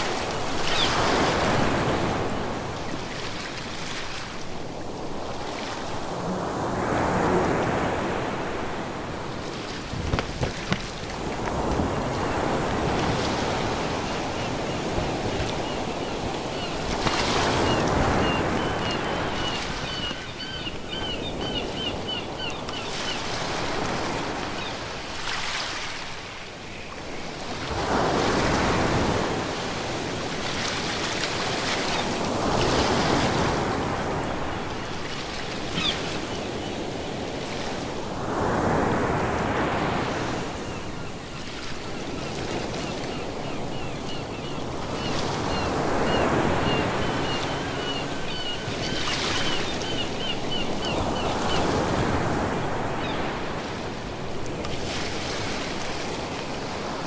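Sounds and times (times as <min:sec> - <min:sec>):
ocean waves breaking: 0:00.0 - 0:26.2, 0:27.4 - 0:57.0.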